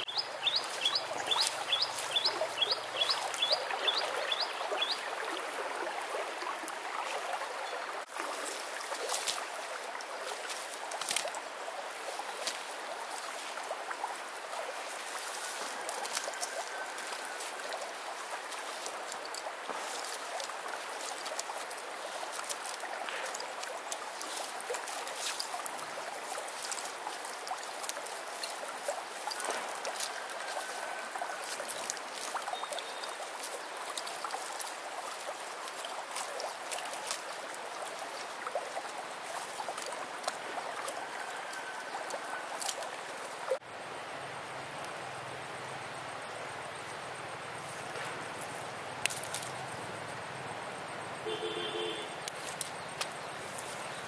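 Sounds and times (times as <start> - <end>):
shallow stream trickling: 0.0 - 54.0.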